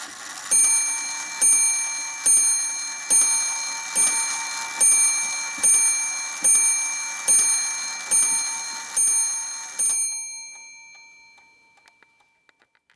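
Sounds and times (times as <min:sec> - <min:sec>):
clock ticking: 0:00.5 - 0:12.4
mantel clock striking: 0:00.5 - 0:12.4.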